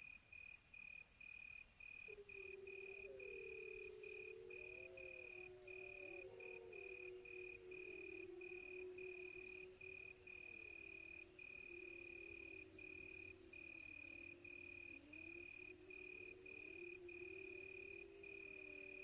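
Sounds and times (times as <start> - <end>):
crickets trilling: 1.8 - 19.0
distant wolves howling: 2.1 - 19.0.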